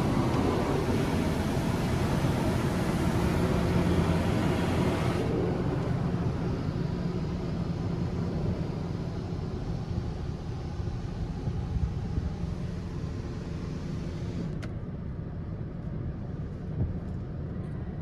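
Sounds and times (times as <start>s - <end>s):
machine low hum: 0.0s - 14.5s.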